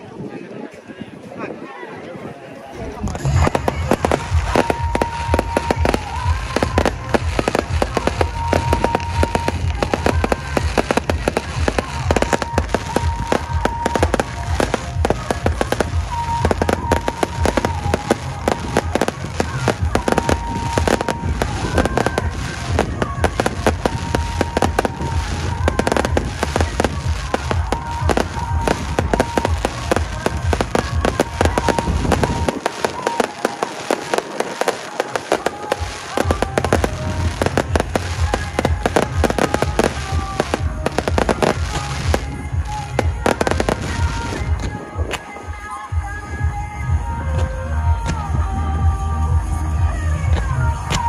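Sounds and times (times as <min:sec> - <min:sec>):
music through loudspeakers: 0:02.7 - 0:51.0
fireworks crackling: 0:02.8 - 0:48.3
fireworks booming: 0:03.1 - 0:45.6.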